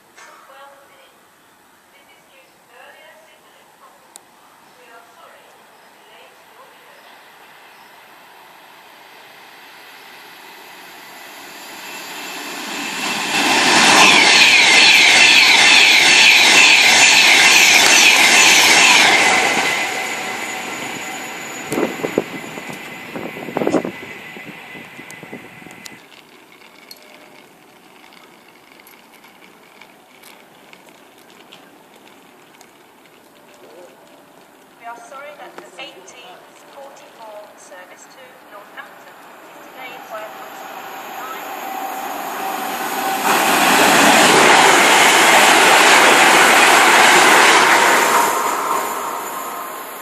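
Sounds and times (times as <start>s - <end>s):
faint station background: 0.0s - 50.0s
passing train: 0.0s - 50.0s.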